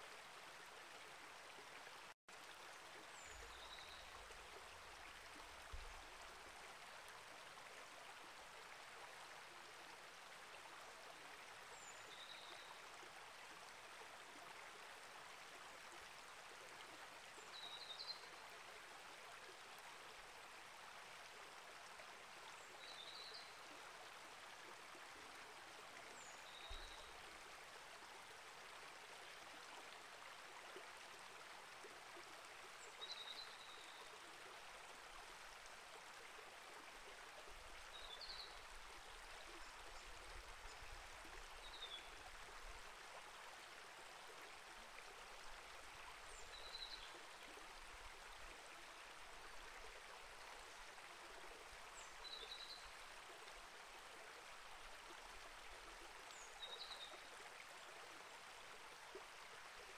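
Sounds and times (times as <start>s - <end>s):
creek flowing: 0.0s - 59.9s.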